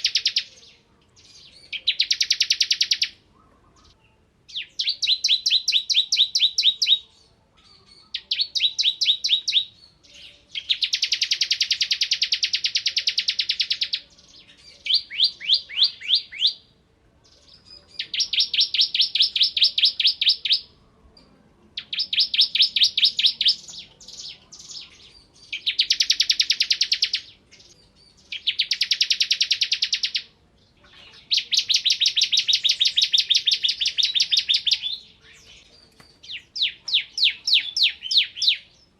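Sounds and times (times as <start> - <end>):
bird singing rapid trills: 0.0 - 16.6, 17.2 - 20.8, 21.8 - 38.9.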